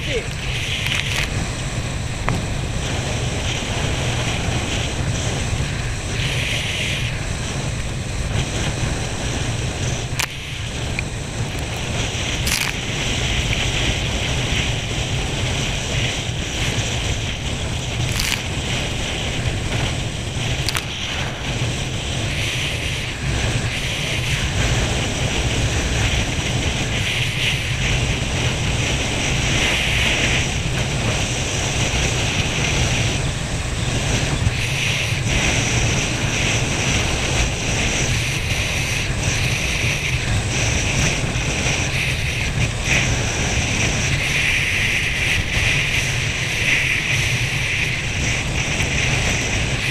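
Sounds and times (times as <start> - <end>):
water rushing past water ski: 0.0 - 49.9
wind buffeting microphone: 0.0 - 49.9.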